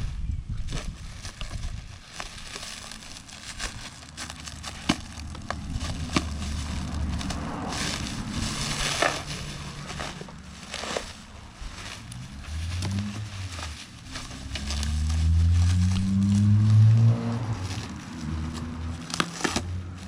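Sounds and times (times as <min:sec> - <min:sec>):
packaging rustling and tearing: 0:00.6 - 0:20.0
packaging crinkling: 0:00.7 - 0:20.0.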